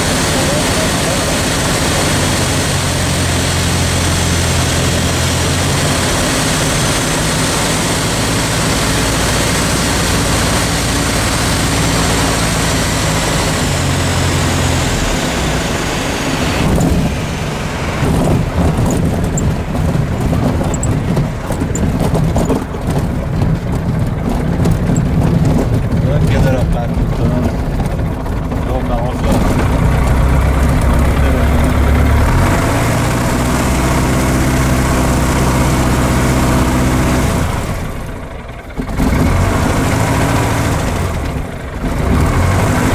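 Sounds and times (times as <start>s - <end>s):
propeller plane engine running: 0.0s - 42.9s
wheels rumbling over grass: 0.0s - 42.9s.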